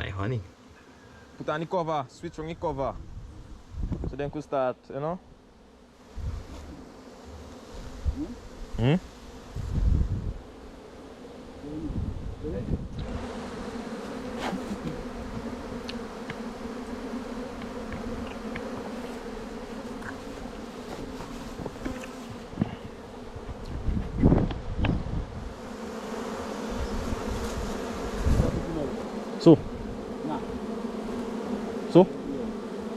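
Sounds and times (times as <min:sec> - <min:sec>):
bees buzzing: 0:04.8 - 0:32.9.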